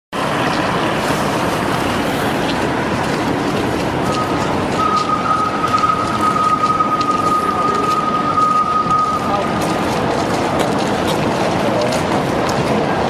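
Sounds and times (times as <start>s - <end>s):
street noise: 0.1s - 13.0s
high-pitched whine: 0.2s - 10.9s
tram approaching: 0.2s - 13.0s.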